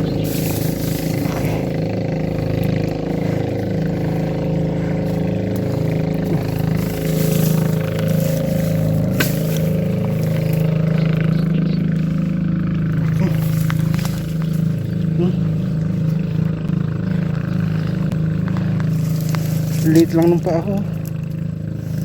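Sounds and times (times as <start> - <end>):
small motor droning: 0.0 - 22.0.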